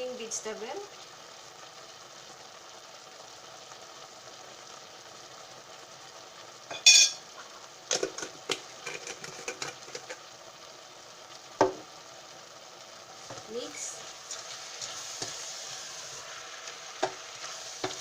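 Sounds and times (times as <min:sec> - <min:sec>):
beef and onions frying in pan: 0:00.0 - 0:18.0.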